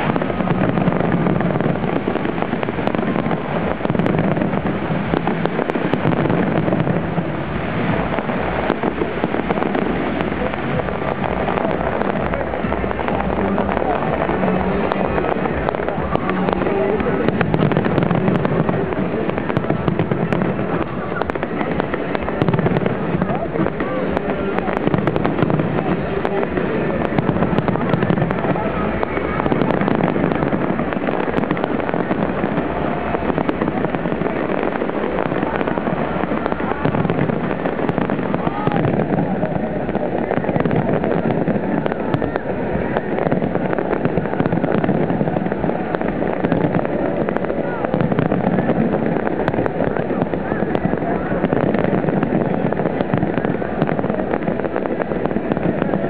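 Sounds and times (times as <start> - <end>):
firework crackles: 0.0 - 56.0.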